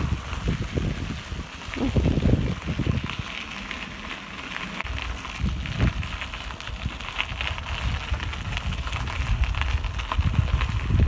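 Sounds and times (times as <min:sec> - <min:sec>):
wind buffeting microphone: 0:00.0 - 0:04.1, 0:04.8 - 0:11.0.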